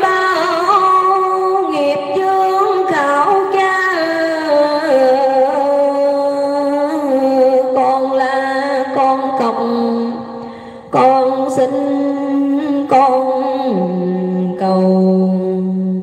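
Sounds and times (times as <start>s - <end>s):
woman chanting: 0.0s - 16.0s.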